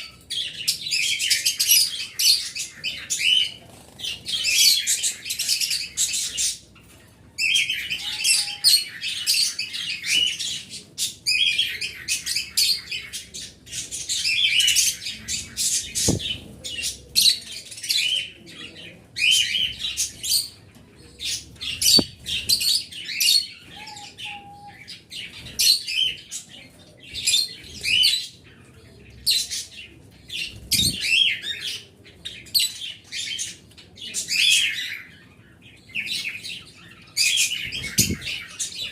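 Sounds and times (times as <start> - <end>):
pet birds chirping: 0.0 - 33.4, 34.5 - 38.9.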